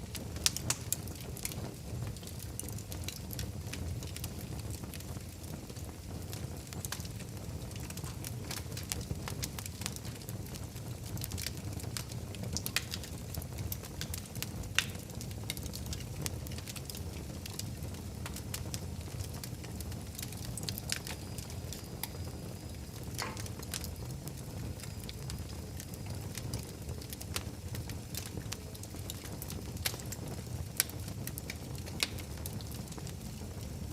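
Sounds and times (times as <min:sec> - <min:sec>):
fire crackling and popping: 0:00.0 - 0:33.9
fire flames rumbling: 0:00.0 - 0:33.9.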